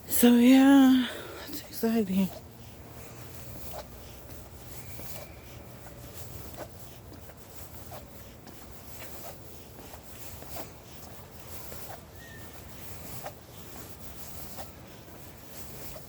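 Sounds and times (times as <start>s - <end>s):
footsteps on leaves: 0.1s - 16.0s.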